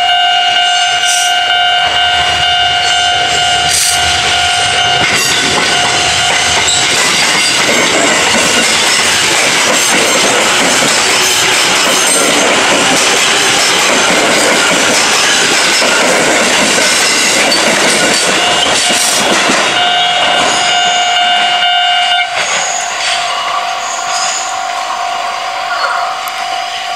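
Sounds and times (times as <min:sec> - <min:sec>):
crossing warning bell ringing: 0:00.0 - 0:26.9
train wheels clattering over rails: 0:00.8 - 0:24.8.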